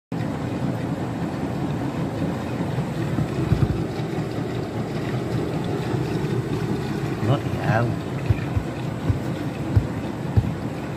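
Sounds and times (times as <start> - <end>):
washing machine drum churning: 0.1 - 10.9.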